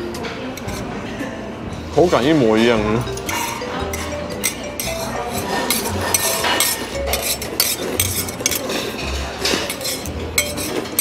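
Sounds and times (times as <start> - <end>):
metal utensils clinking on a plate: 2.0 - 11.0.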